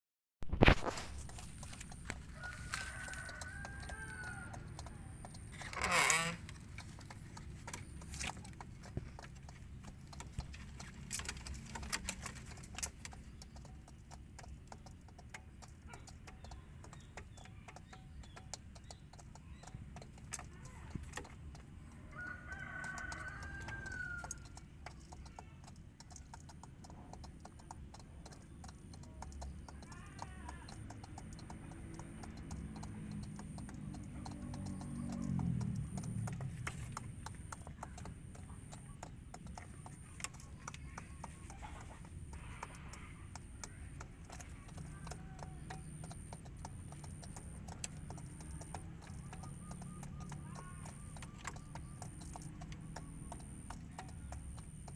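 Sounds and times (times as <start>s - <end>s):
small clicks: 0.5s - 54.9s.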